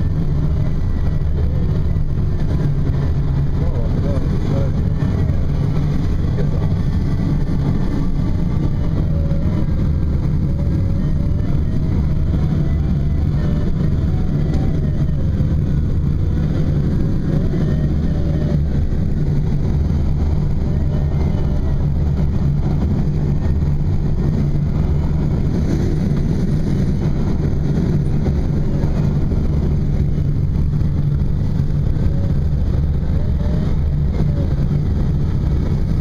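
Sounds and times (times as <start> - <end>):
airflow rushing over canopy: 0.0 - 36.0.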